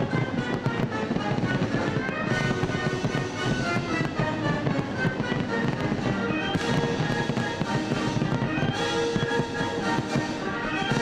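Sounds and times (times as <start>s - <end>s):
fireworks crackling and banging: 0.0s - 11.0s
music: 0.0s - 11.0s.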